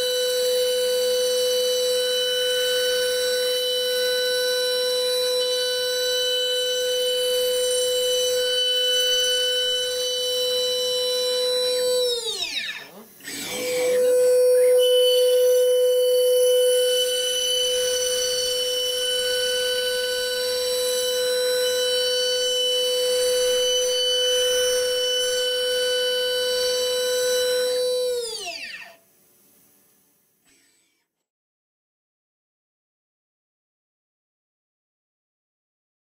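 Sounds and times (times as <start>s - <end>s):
high-pitched motor whine: 0.0s - 29.0s, 30.5s - 31.0s.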